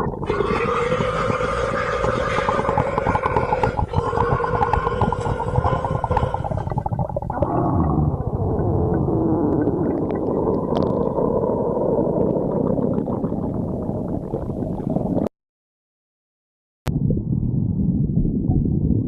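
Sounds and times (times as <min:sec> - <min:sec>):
stomach growling: 0:00.0 - 0:15.3.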